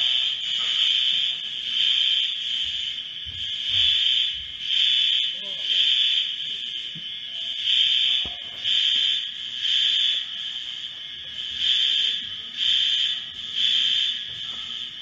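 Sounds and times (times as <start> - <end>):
fire alarm beeps: 0.0 - 15.0.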